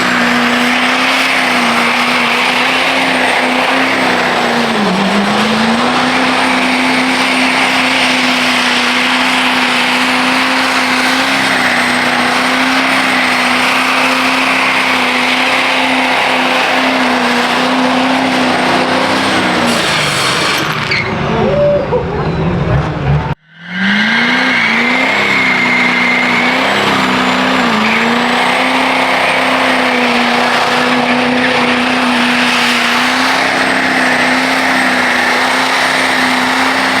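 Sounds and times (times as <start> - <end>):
truck engine at high revs: 0.0 - 37.0.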